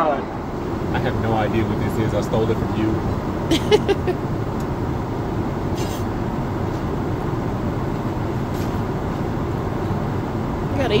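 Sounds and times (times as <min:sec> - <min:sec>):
airplane cabin roar: 0:00.0 - 0:11.0.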